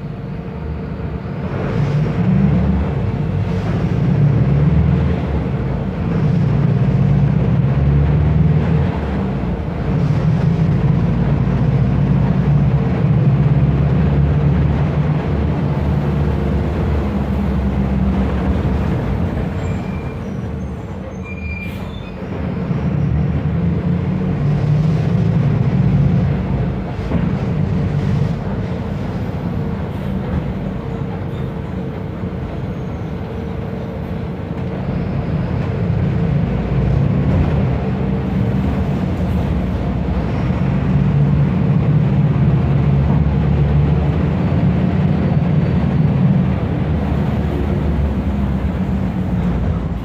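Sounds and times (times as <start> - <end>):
diesel bus engine rumbling: 0.0 - 50.0.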